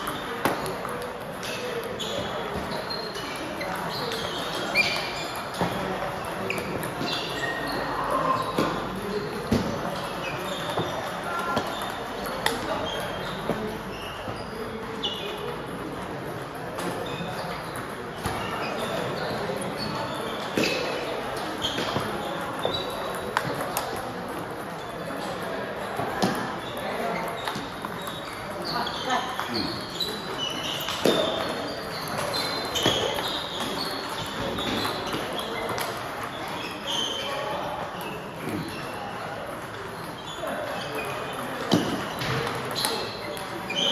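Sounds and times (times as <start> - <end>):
table tennis balls clicking: 0.0 - 13.9, 14.7 - 43.9
sneakers squeaking on floor: 0.0 - 43.9.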